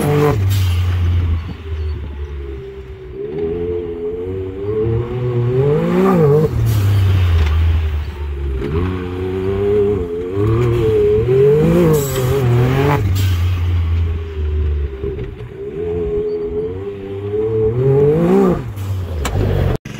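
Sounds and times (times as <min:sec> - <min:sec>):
utility vehicle engine revving: 0:00.0 - 0:19.9.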